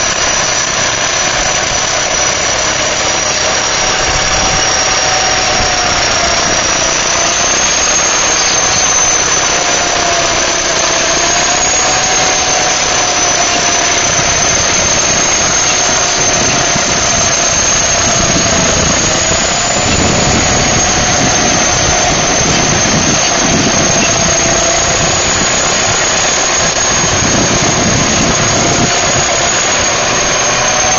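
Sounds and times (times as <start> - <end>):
bulldozer diesel engine rumbling: 0.0 - 30.9
high squeal: 0.0 - 30.9.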